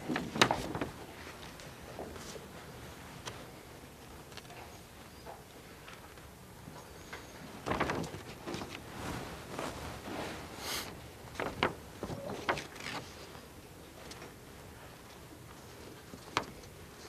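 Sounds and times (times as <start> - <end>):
faint rustles and knocks: 0.0 - 17.0.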